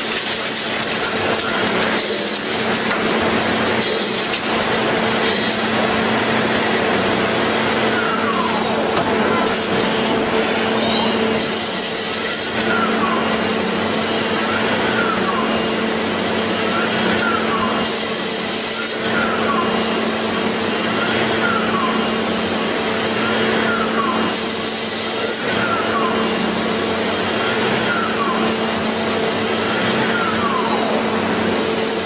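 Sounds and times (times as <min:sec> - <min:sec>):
machine motor whine: 0:00.0 - 0:32.0
steady machine hum: 0:00.0 - 0:32.0.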